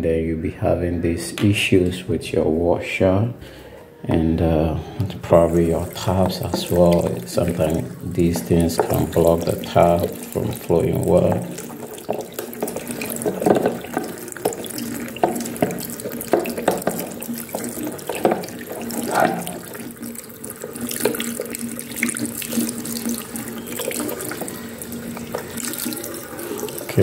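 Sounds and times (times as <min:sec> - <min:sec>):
tap water running and splashing: 0:05.0 - 0:27.0.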